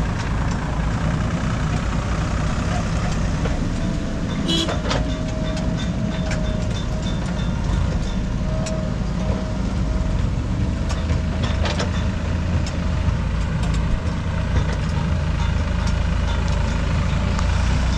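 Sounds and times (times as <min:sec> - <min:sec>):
backhoe diesel engine working: 0:00.0 - 0:17.9
tractor engine running: 0:00.0 - 0:17.9.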